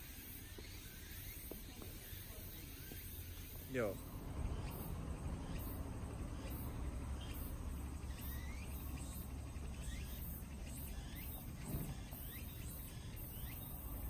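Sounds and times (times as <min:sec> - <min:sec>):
faint rising chirps: 0:00.0 - 0:14.0
insects chirping: 0:00.0 - 0:14.0.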